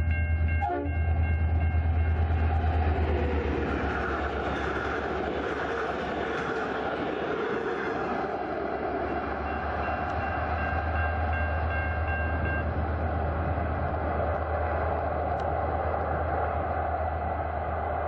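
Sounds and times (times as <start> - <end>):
diesel locomotive rumble: 0.0 - 18.0
train wheels on track: 0.0 - 18.0.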